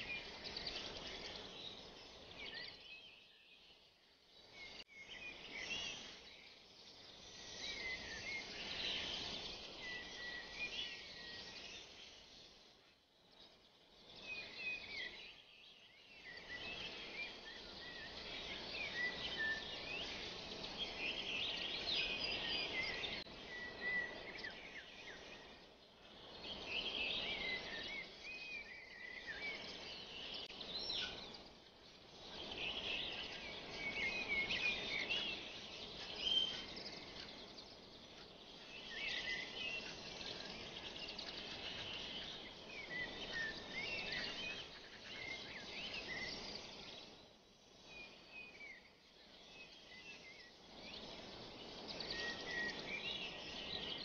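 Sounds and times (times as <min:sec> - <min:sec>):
small birds chirping: 0:00.0 - 0:54.0
steady background hiss: 0:00.0 - 0:54.0.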